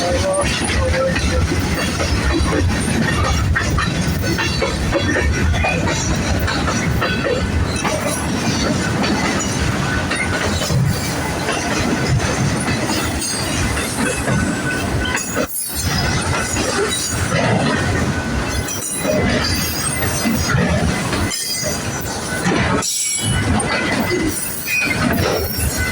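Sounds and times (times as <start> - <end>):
freight train wheels clattering: 0.0 - 25.9.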